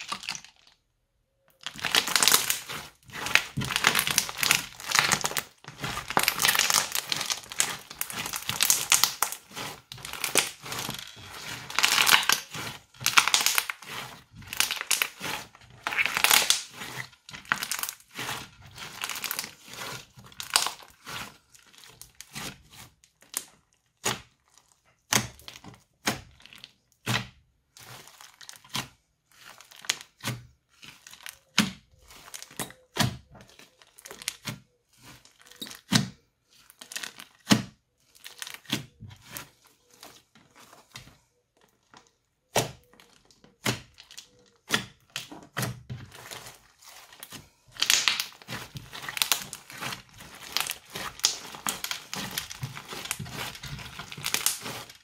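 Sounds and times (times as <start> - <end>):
crunchy slime being squeezed: 0.0 - 0.8, 1.5 - 40.1, 42.4 - 55.0.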